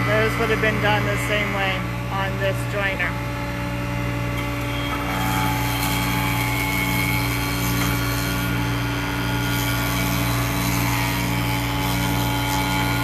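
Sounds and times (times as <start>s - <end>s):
wood cut by jointer: 0.0s - 3.0s, 4.2s - 13.0s
jointer motor hum: 0.0s - 13.0s.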